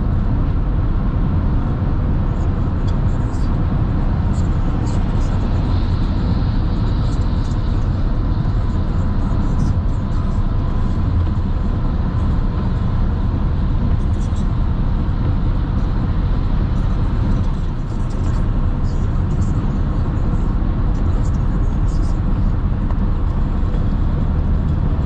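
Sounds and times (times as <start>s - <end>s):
car road noise rumble: 0.0s - 25.0s.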